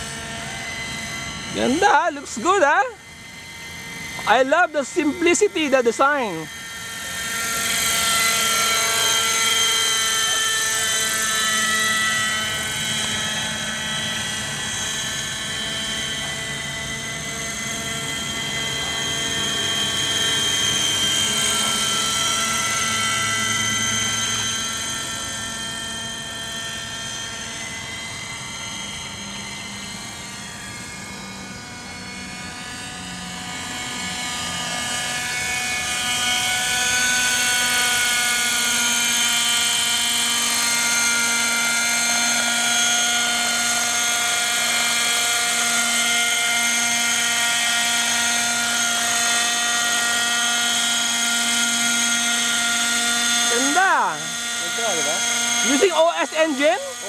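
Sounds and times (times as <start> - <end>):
rotor noise: 0.0 - 26.8, 27.8 - 57.0
model helicopter engine whine: 0.0 - 57.0.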